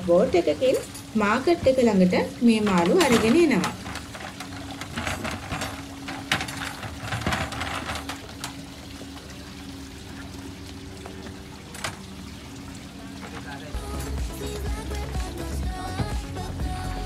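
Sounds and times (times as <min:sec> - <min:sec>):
water sloshing around boats: 0:00.0 - 0:17.0.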